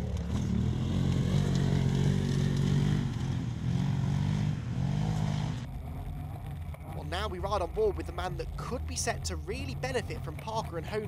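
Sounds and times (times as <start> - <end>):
buggy engine running hard: 0.0 - 11.0.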